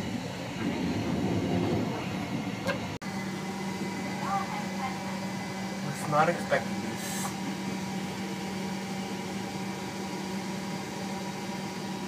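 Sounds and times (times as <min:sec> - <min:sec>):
exhaust fan whirring hum: 0:00.0 - 0:12.0.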